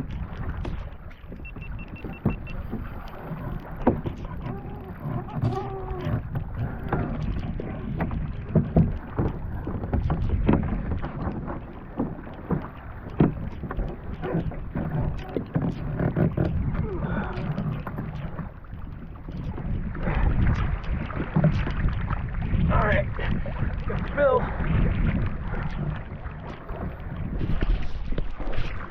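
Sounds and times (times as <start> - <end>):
water sloshing against hull: 0.0 - 28.9
wind buffeting microphone: 0.0 - 28.9.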